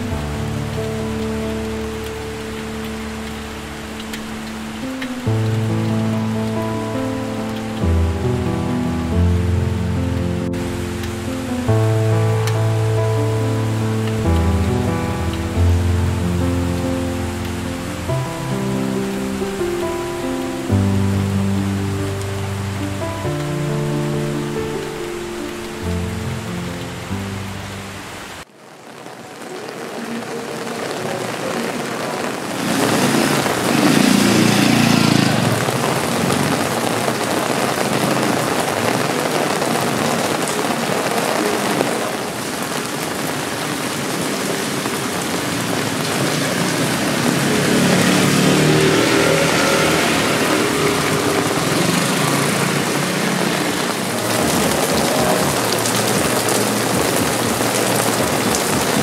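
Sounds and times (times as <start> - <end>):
rain on wet pavement: 0.0 - 59.0.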